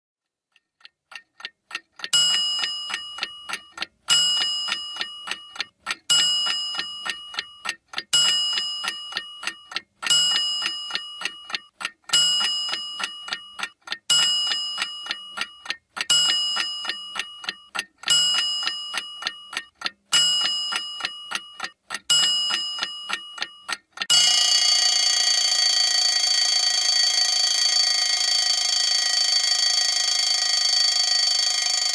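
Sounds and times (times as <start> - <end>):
alarm clock ticking: 0.5 - 31.9
alarm clock ringing: 2.1 - 31.9.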